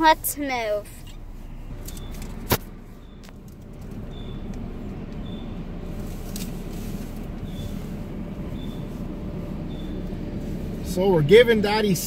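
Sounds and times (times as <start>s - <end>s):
car wash rumble: 0.0s - 12.0s.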